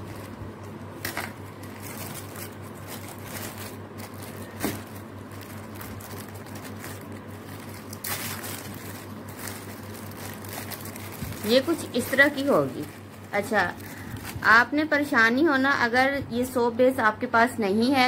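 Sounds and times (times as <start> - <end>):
plastic wrapping crinkling: 0.0 - 15.2
steady low hum: 0.0 - 18.0.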